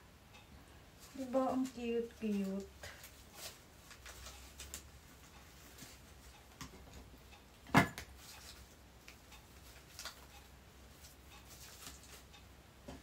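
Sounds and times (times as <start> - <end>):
faint clicks of craft decorations: 0.3 - 13.0.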